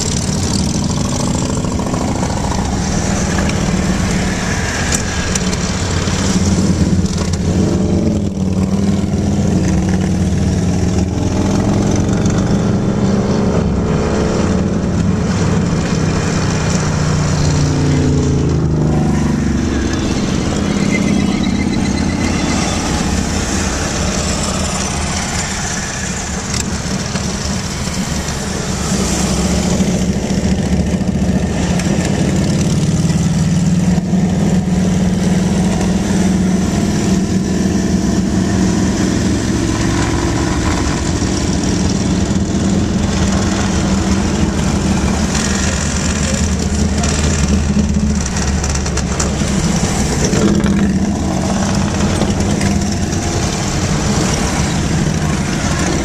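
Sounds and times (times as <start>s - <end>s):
motorcycle engines droning: 0.0s - 56.0s
road noise: 0.0s - 56.0s.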